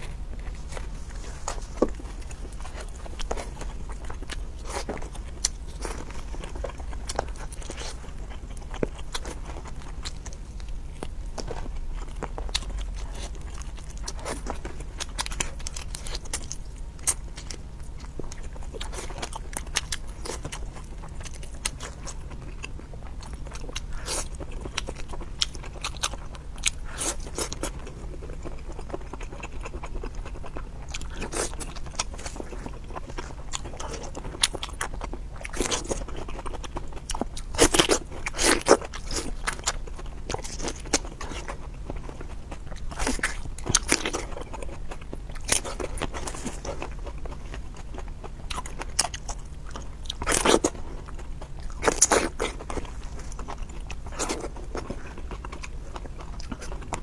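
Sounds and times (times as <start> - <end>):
chewing and crunching food: 0.0 - 57.0
steady low hum: 0.0 - 57.0.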